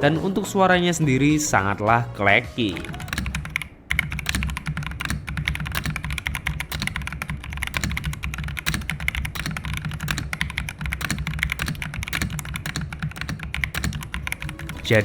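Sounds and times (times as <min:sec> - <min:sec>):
mechanical keyboard typing: 0:02.8 - 0:15.0.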